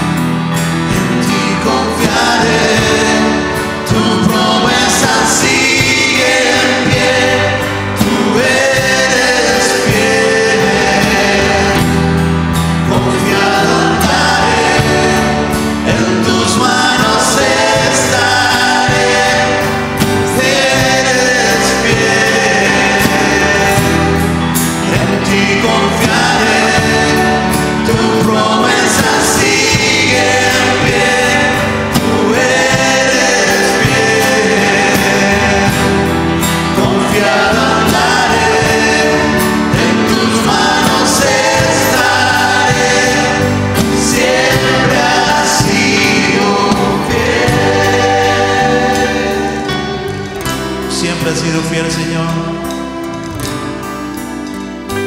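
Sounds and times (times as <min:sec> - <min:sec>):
choir singing praise song: 0:00.0 - 0:53.4
sustained accompaniment: 0:00.0 - 0:55.0.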